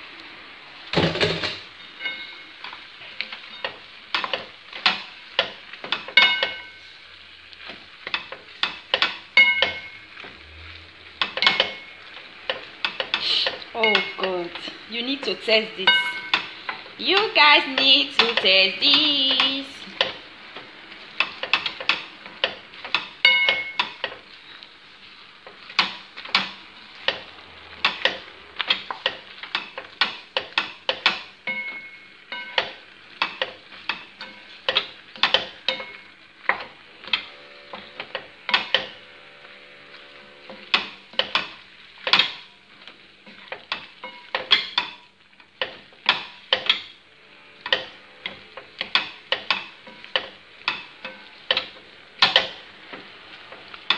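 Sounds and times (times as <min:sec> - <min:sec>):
low sizzle of hot pan: 0:00.0 - 0:53.9.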